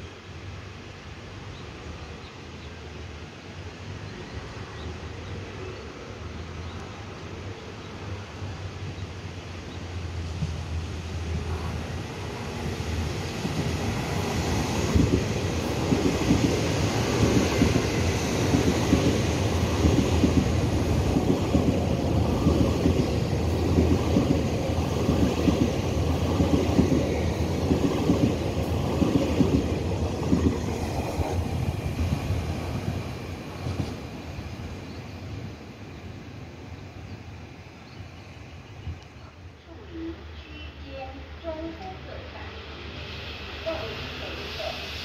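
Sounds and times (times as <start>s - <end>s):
train wheels rumbling on rail: 6.2s - 45.0s.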